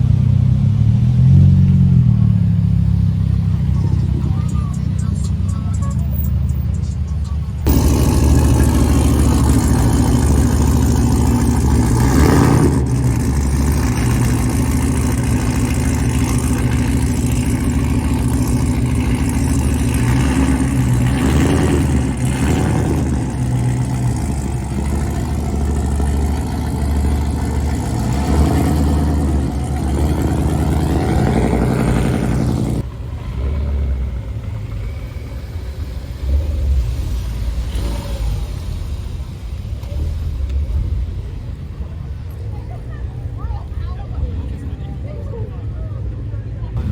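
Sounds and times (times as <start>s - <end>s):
car engine revving: 0.0s - 46.9s
modified car engine running: 0.0s - 46.9s.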